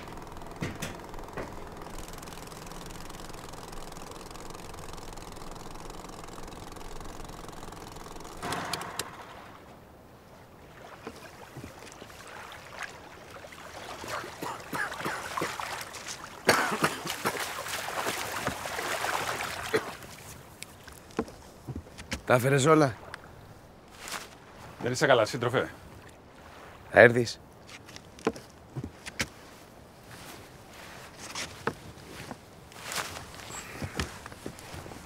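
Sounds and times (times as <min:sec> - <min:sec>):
water splashing and sloshing: 0:00.0 - 0:35.0.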